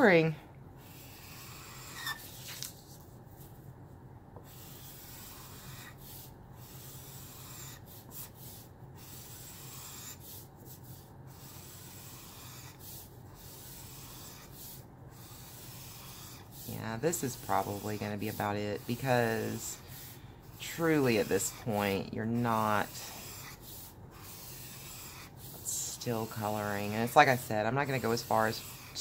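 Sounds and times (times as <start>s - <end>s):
marker rubbing across paper: 0.8s - 3.6s, 4.4s - 29.0s.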